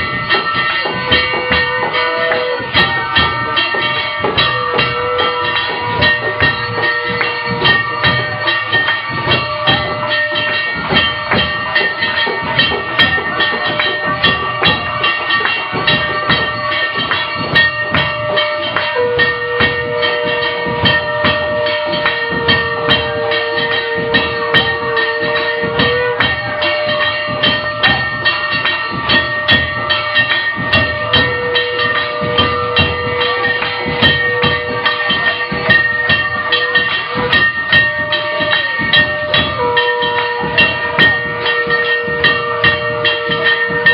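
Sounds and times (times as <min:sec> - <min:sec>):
hand bells and cymbals clanging: 0:00.0 - 0:43.9
steady bell ring: 0:00.0 - 0:43.9
long held note: 0:00.8 - 0:11.6, 0:16.4 - 0:43.9.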